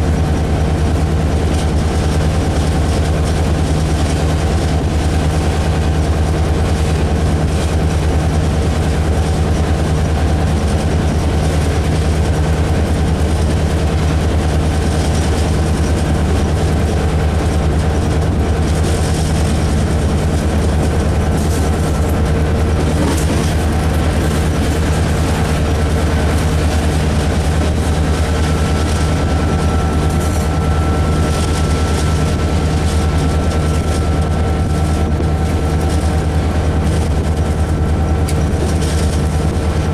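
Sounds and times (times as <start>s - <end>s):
locomotive engine droning: 0.0s - 39.9s.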